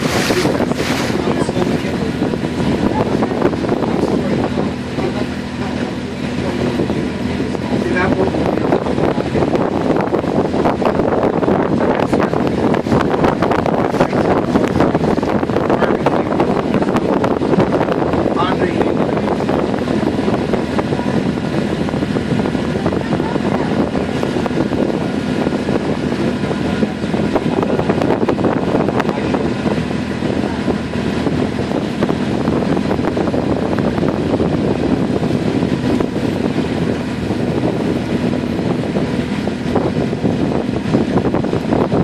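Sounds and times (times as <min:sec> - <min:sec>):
boat engine drone: 0:00.0 - 0:42.0
wind on microphone: 0:00.0 - 0:42.0.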